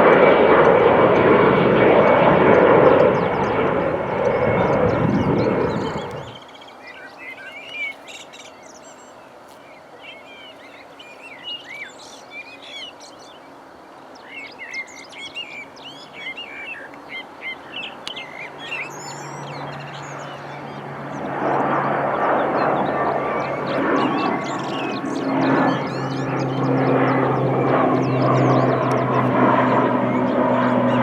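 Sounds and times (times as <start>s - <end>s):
aircraft hum and rushing: 0.0s - 31.0s
small birds chirping: 2.5s - 31.0s.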